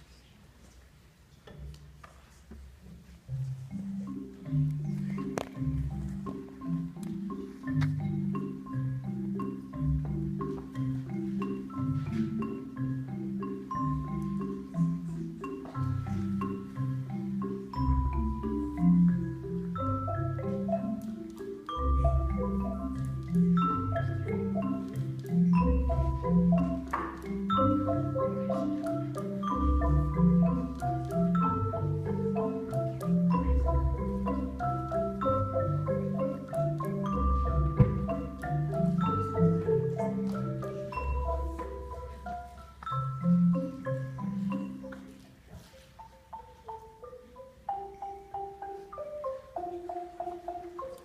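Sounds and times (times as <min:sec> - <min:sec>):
marimba melody: 0:01.5 - 0:51.0.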